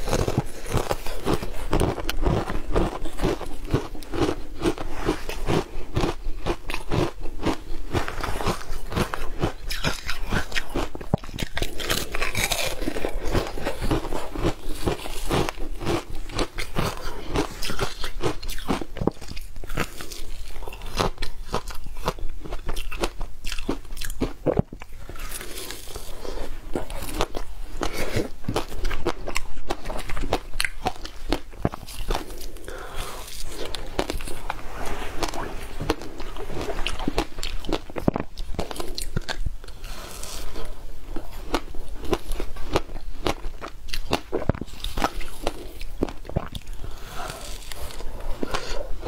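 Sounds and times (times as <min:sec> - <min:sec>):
ice being chewed: 0:00.0 - 0:49.0.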